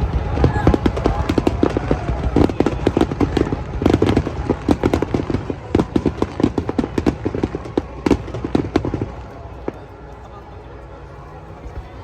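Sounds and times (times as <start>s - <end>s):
fireworks popping and crackling: 0.0s - 10.8s.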